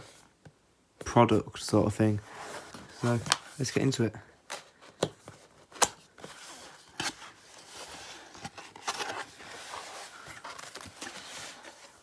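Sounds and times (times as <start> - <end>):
packaging rustling and scraping: 2.1 - 12.0.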